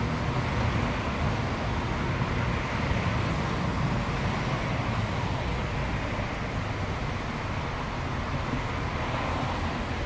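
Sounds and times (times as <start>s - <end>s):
cars driving through intersection: 0.0s - 10.0s.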